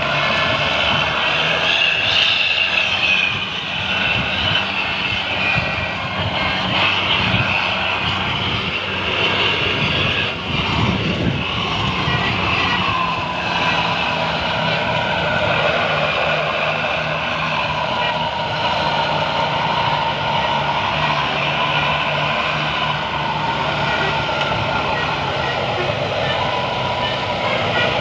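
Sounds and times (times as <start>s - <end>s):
engines droning: 0.0s - 28.0s
wind rushing on microphone: 0.0s - 28.0s.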